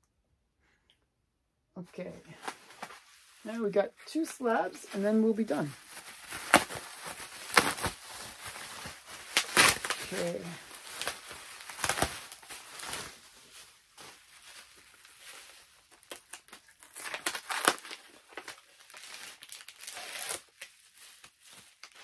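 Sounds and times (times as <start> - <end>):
packaging wrap crinkling: 4.2 - 22.0.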